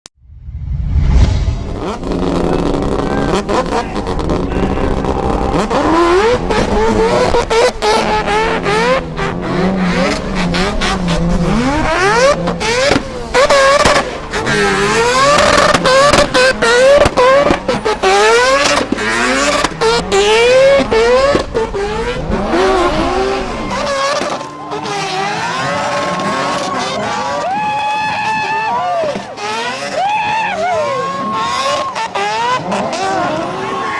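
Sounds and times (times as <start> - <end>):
race car engines revving: 0.4 - 33.9.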